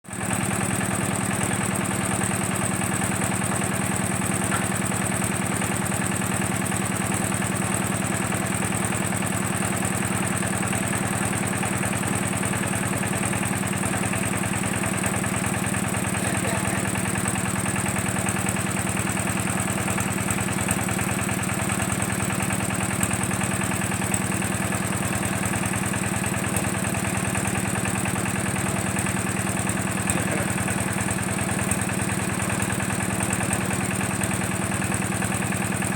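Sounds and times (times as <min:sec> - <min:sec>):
drilling machine engine running: 0:00.1 - 0:35.9.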